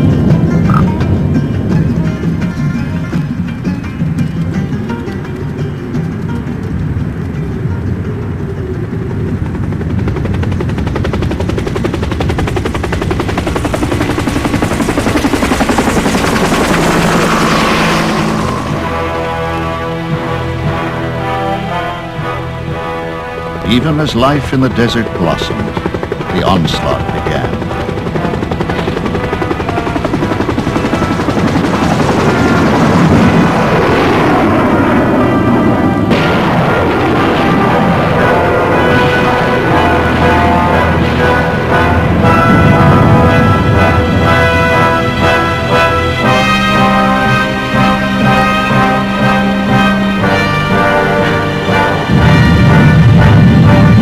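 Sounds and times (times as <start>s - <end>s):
helicopter rotor chopping: 0.0s - 54.0s.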